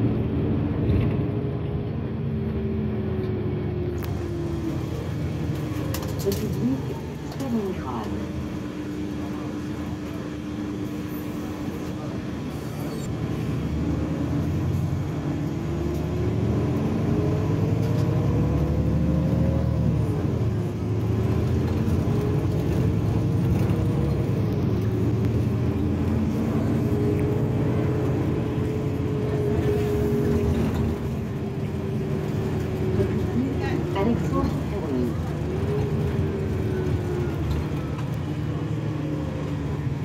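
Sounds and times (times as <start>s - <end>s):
bus engine drone with whine: 0.0s - 40.0s.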